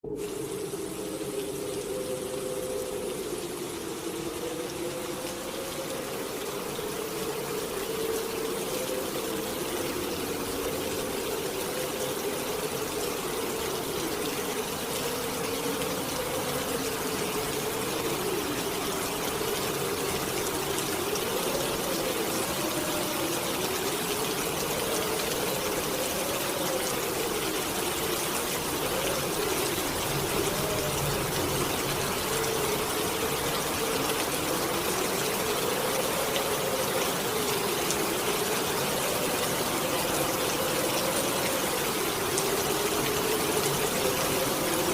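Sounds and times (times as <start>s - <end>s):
heavy rain hissing: 0.0s - 44.9s
howling wind: 0.0s - 44.9s.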